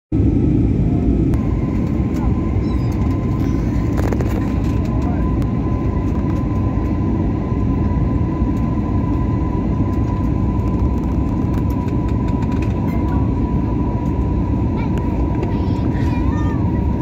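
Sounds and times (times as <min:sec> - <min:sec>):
jet cabin roar: 0:00.1 - 0:17.0
thin steady whine: 0:00.2 - 0:17.0.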